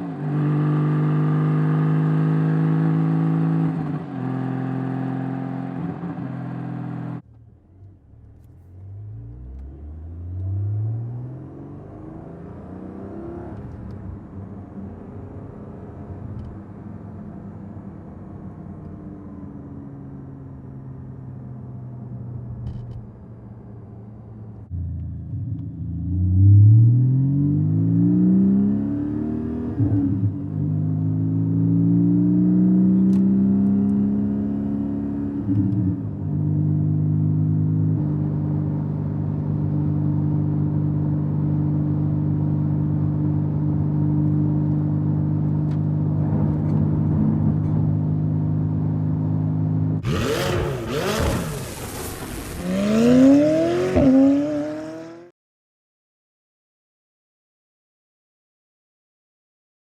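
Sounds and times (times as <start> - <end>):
car engine heard from inside cabin: 0.2 - 51.2.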